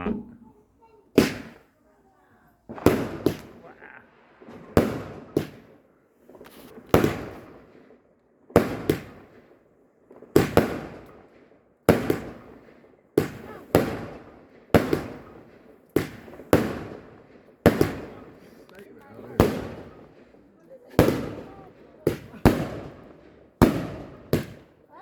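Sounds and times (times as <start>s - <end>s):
fireworks banging: 0.0s - 1.7s, 2.6s - 9.4s, 11.9s - 25.0s.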